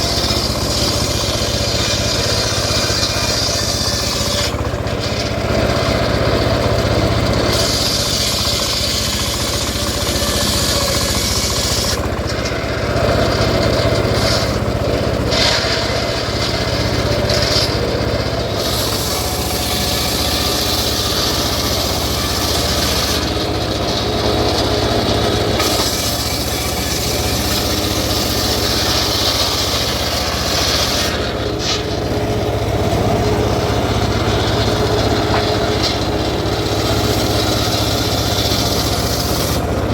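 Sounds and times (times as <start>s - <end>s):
circular saw blade cutting wood: 0.0s - 39.9s
engine humming: 0.0s - 39.9s.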